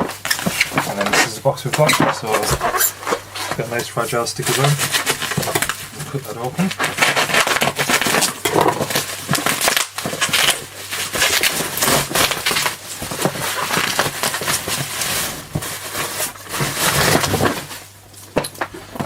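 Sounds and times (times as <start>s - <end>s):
cardboard box rustling and crackling: 0.0s - 19.0s.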